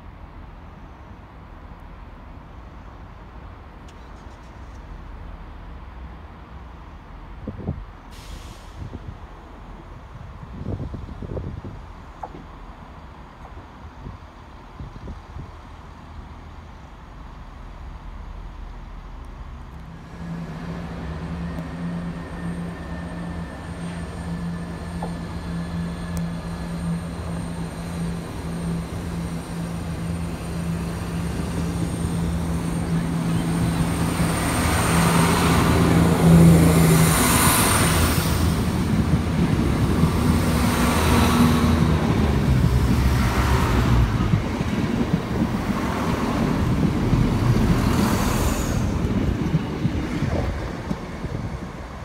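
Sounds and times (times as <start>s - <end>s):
diesel train engine hum: 0.0s - 52.0s
train wheels rushing and rumbling: 3.0s - 52.0s.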